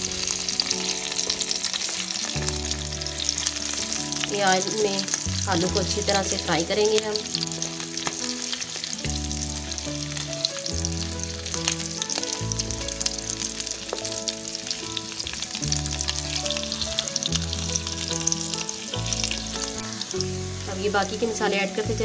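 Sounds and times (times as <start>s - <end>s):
background music with held chords: 0.0s - 22.0s
potatoes sizzling in hot oil: 0.0s - 22.0s.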